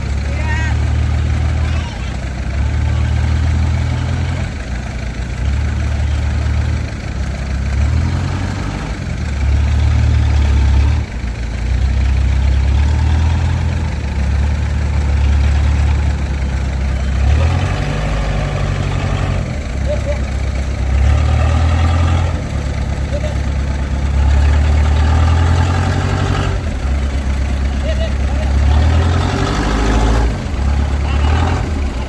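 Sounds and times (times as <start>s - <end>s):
heavy diesel engine working: 0.0s - 32.0s.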